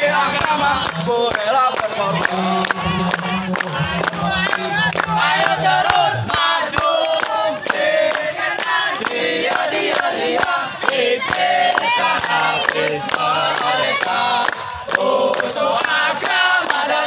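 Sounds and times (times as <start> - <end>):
men clapping in unison: 0.0 - 17.0
men singing a chant: 0.0 - 17.0.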